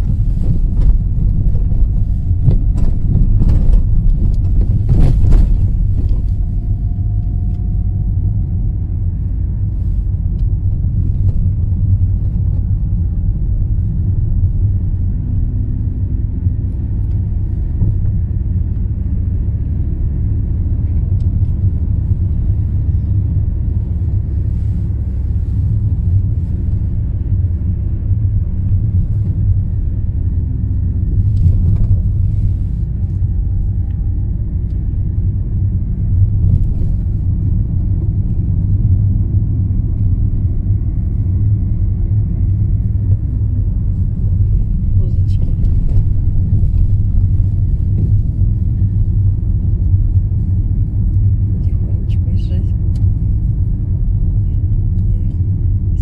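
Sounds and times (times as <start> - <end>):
car engine and road noise inside: 0.0 - 56.0.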